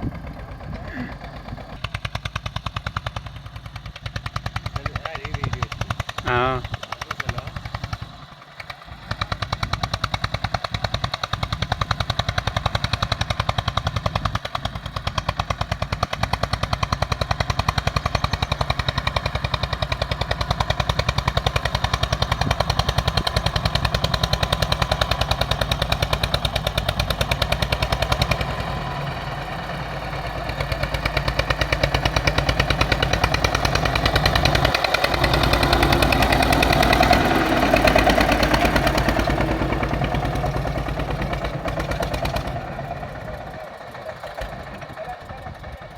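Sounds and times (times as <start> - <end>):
tractor engine chugging: 0.0 - 45.9.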